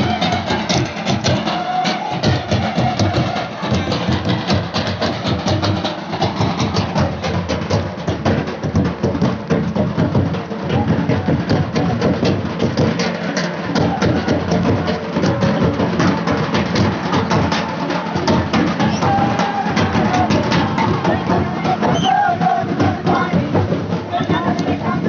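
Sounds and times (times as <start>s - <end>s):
hand-beaten drums: 0.0s - 25.0s.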